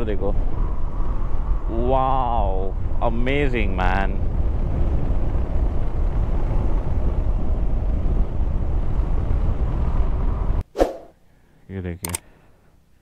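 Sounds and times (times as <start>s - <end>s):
wind rumble on microphone: 0.0s - 10.6s.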